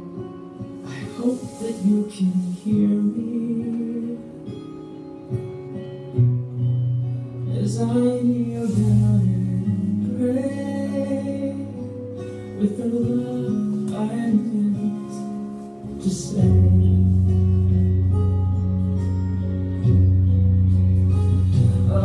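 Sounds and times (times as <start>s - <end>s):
guitar accompaniment: 0.0s - 22.0s.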